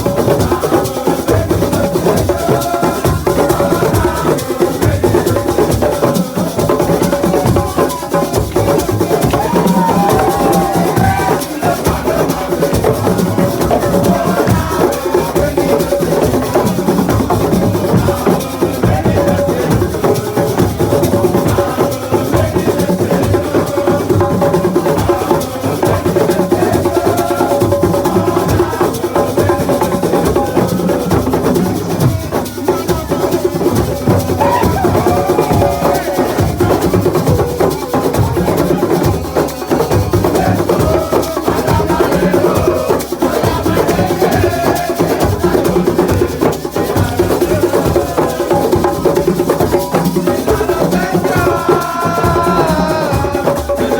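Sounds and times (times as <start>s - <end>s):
drums beaten in fast rhythm: 0.0s - 53.9s
voices singing: 0.0s - 53.9s.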